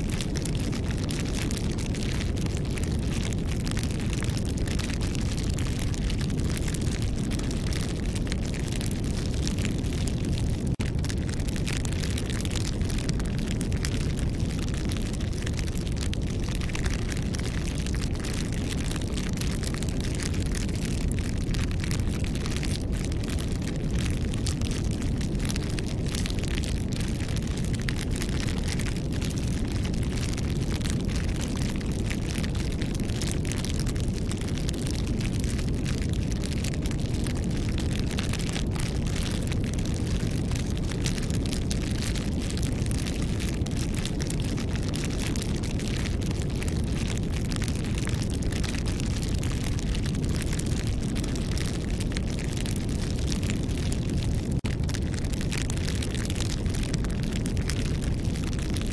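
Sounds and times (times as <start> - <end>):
crackling burning wood: 0.0 - 58.9
low rush of flames: 0.0 - 58.9.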